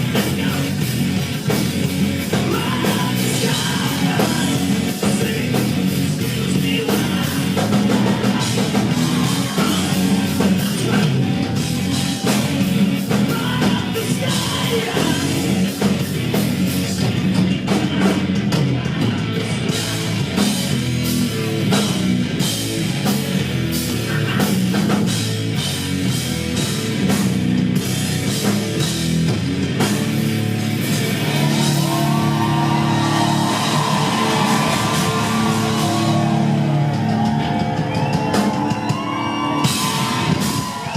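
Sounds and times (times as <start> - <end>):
bass guitar: 0.0 - 40.9
distorted guitars: 0.0 - 40.9
drum kit: 0.0 - 40.9.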